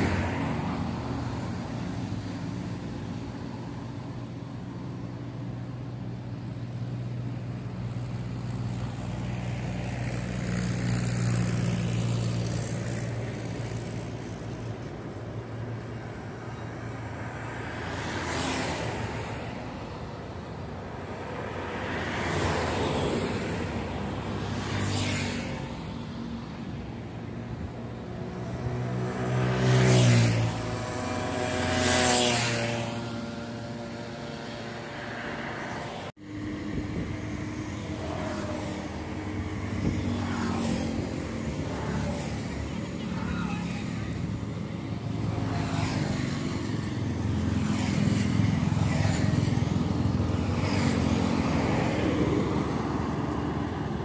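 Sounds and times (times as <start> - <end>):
steady traffic rumble: 0.0 - 54.0
vehicles passing on highway: 0.0 - 54.0.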